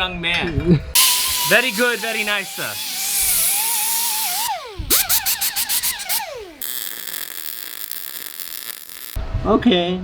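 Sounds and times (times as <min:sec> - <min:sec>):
steady hiss: 0:01.0 - 0:09.2.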